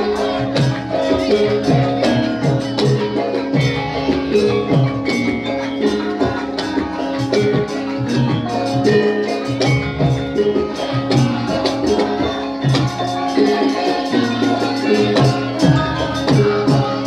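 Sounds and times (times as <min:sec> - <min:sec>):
gamelan metal percussion: 0:00.0 - 0:17.0.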